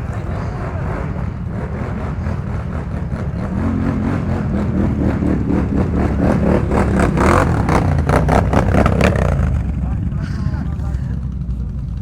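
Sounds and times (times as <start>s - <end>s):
atv engine running under load: 0.0s - 12.0s.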